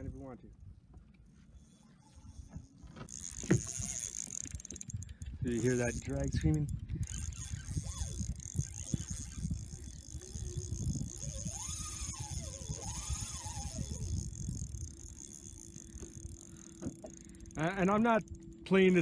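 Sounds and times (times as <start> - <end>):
fishing reel rattling and clicking: 1.6 - 19.0.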